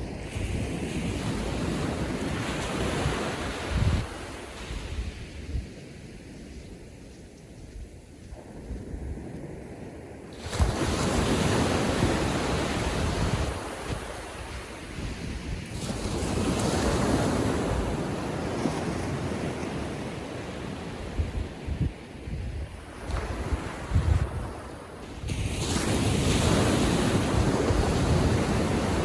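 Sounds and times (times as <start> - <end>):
surf waves breaking on beach: 0.0 - 6.6, 9.5 - 29.0.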